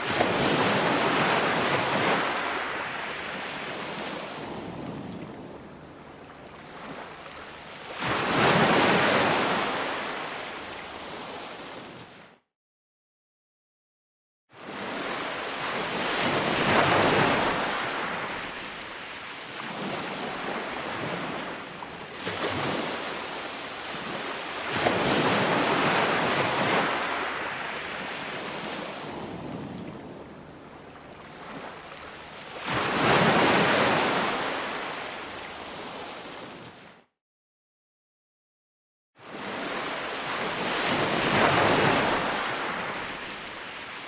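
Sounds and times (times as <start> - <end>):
waves breaking: 0.0 - 12.2, 14.9 - 37.0, 39.4 - 44.0.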